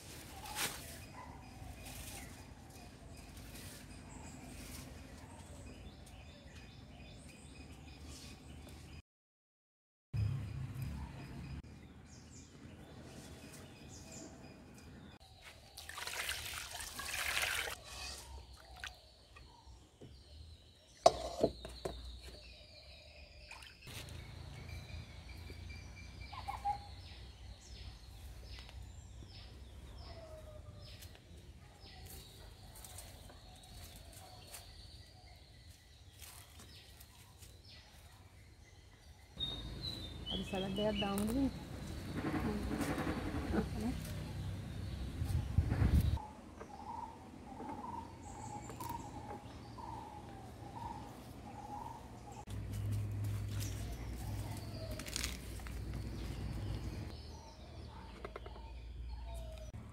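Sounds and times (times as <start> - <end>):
birds chirping: 10.2 - 59.9.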